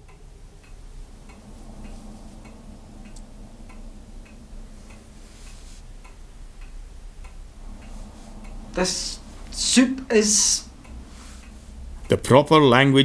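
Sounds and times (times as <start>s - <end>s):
clock ticking: 0.0s - 13.0s
low steady hum: 0.0s - 13.0s.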